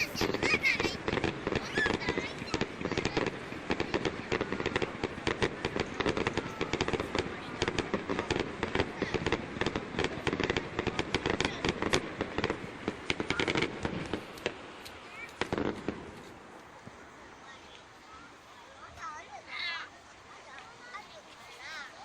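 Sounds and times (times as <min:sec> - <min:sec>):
fireworks bursts and crackling: 0:00.0 - 0:22.0.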